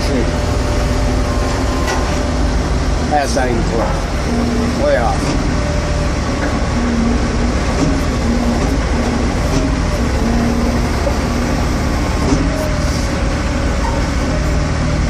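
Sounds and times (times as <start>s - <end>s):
diesel engine running: 0.0s - 15.0s
hydraulic whine: 0.0s - 15.0s.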